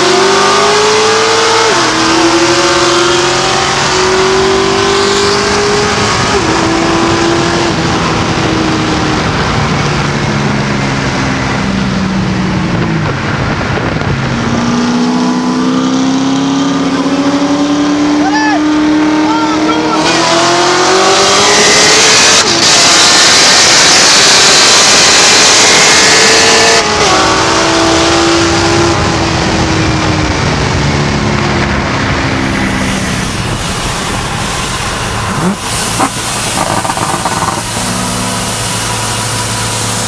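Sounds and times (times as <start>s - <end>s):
car engines at full throttle: 0.0s - 40.0s.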